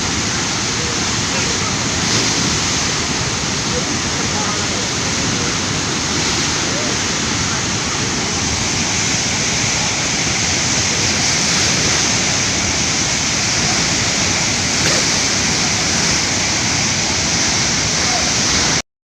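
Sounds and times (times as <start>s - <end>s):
floodwater rushing: 0.0s - 18.8s.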